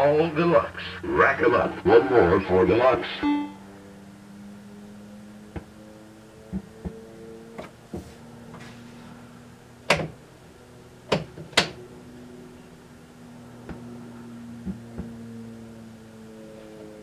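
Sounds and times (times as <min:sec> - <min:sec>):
speaker mains hum: 0:00.0 - 0:03.8, 0:05.5 - 0:17.0.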